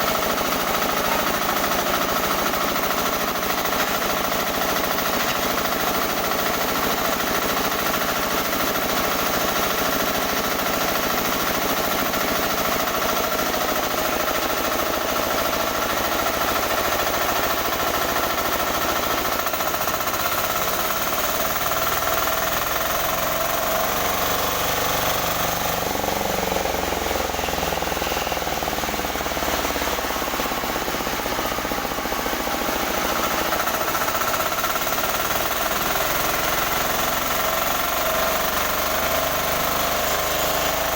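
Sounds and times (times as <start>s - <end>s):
sawmill machine clattering: 0.0s - 40.9s.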